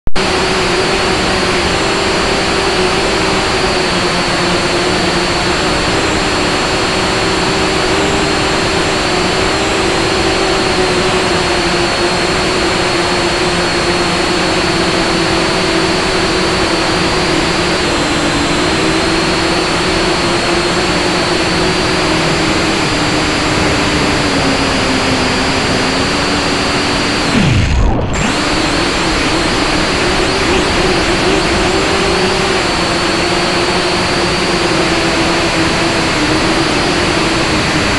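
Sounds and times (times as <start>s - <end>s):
toy drone motors whining: 0.2s - 37.9s.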